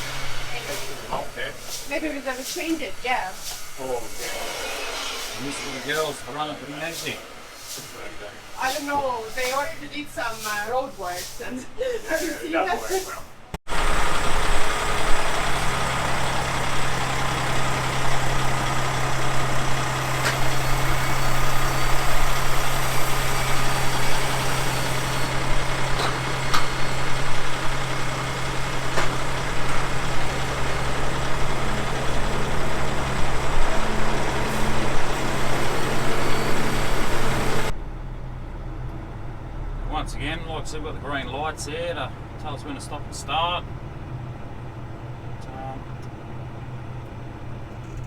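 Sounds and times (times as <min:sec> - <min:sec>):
diesel truck engine running: 0:00.0 - 0:10.9, 0:13.4 - 0:48.0.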